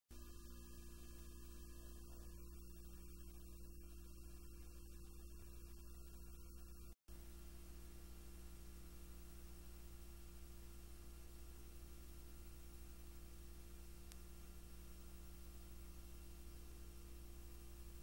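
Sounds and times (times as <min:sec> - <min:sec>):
faint mains hum: 0:00.1 - 0:18.0
low hiss: 0:00.2 - 0:18.0.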